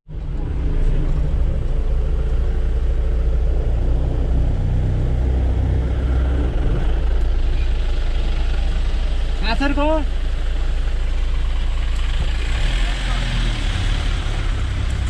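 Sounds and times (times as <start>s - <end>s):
engine droning: 0.1s - 15.0s.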